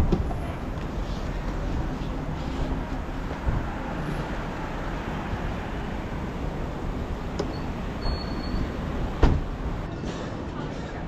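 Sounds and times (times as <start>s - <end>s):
vehicle rumbling in motion: 0.0s - 10.6s.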